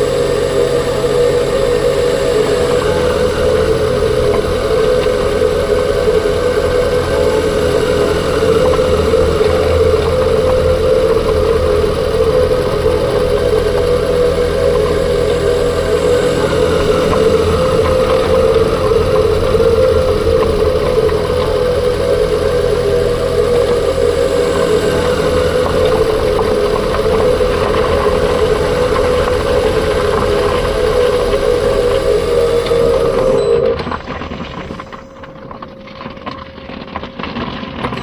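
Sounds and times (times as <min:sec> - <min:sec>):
drivetrain whine: 0:00.0 - 0:38.0
engine low rumble: 0:00.0 - 0:38.0.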